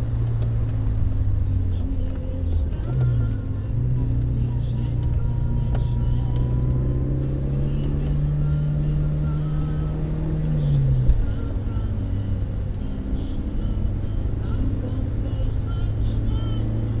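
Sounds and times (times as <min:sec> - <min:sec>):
car engine under load: 0:00.0 - 0:17.0.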